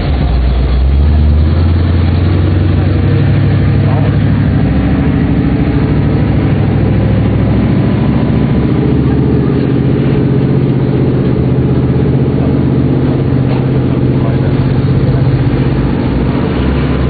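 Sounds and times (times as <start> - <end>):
pickup truck engine running: 0.0 - 17.0.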